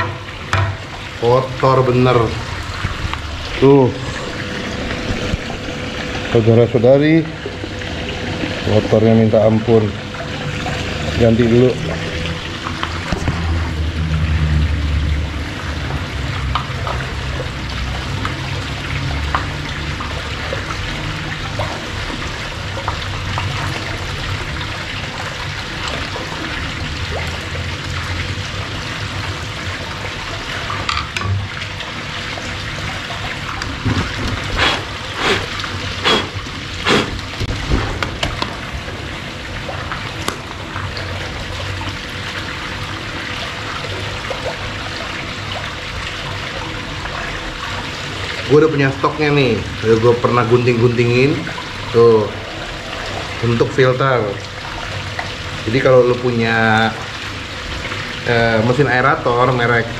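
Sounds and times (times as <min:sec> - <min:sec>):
waterfall splashing into pond: 0:00.0 - 0:59.9.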